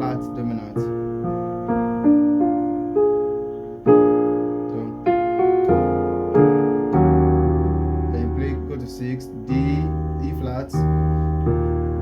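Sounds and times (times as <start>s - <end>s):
keyboard piano chords: 0.0s - 12.0s.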